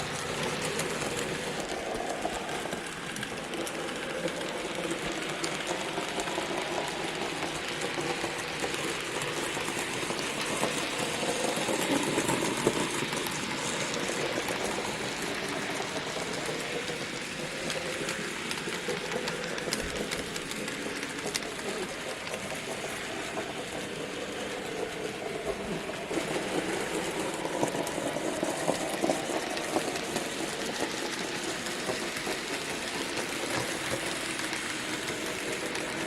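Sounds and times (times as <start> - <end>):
model train motor whirring: 0.0 - 36.0
wheels ticking over track: 0.0 - 36.0.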